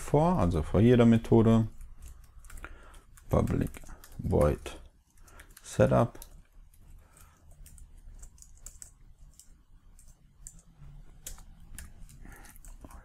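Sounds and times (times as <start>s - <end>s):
computer keyboard keystrokes: 1.7s - 13.0s.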